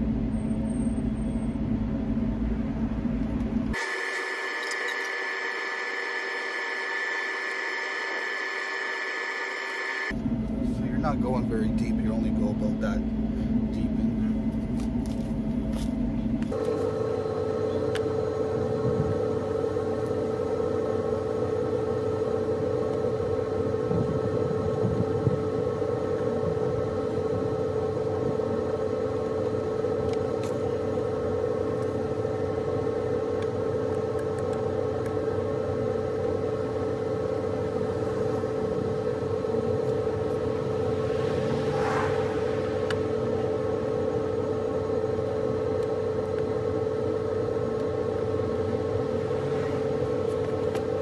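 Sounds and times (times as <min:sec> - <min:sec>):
steady machine drone: 0:00.0 - 0:51.0.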